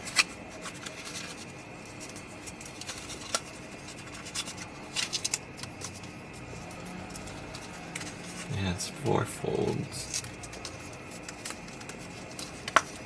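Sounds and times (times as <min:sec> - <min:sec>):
cardstock folded and creased: 0:00.0 - 0:08.5, 0:10.0 - 0:13.0.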